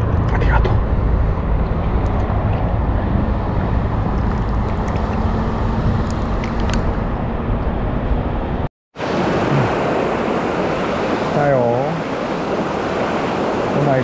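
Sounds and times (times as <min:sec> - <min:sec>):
outdoor rushing noise with deep rumble: 0:00.0 - 0:14.0.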